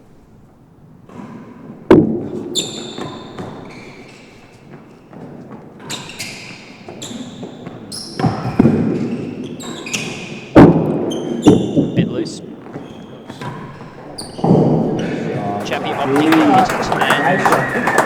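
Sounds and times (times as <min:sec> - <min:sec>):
shoes squeaking: 0:02.4 - 0:18.0.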